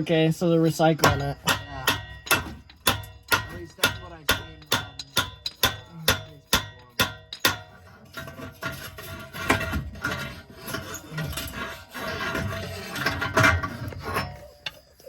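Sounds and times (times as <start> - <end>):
metal scraping and rattling: 0.0 - 15.0.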